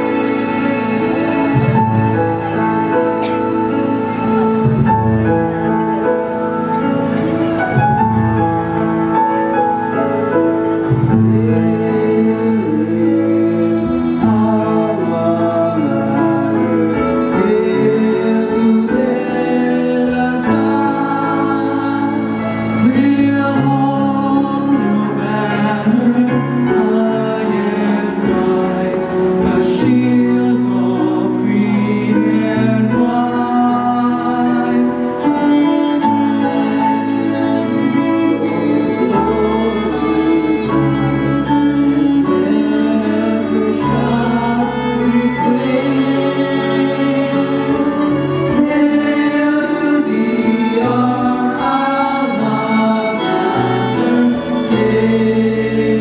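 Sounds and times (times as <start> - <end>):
choir singing: 0.0 - 56.0
instrumental accompaniment: 0.0 - 56.0.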